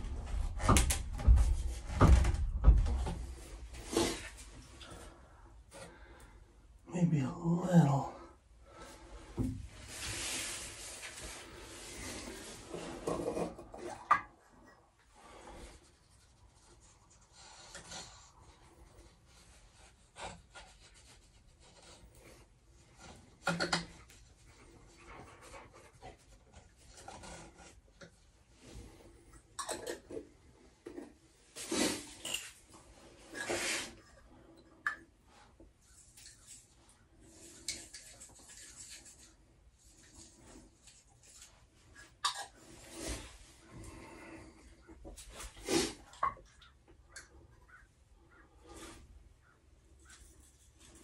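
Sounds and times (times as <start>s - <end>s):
rubbing and scraping: 0.0s - 6.2s, 8.9s - 14.2s, 15.0s - 46.7s.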